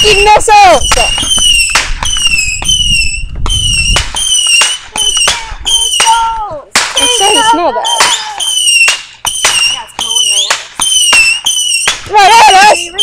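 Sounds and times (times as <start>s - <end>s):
whistling fireworks: 0.0s - 6.2s, 7.8s - 13.0s.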